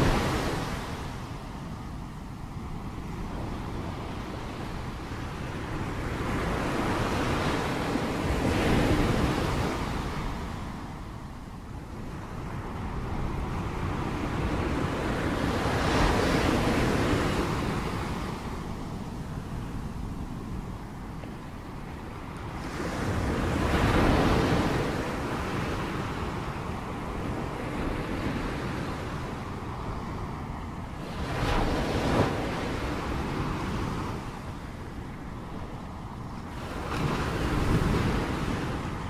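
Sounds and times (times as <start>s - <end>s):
ocean waves breaking: 0.0s - 11.3s, 12.0s - 39.0s.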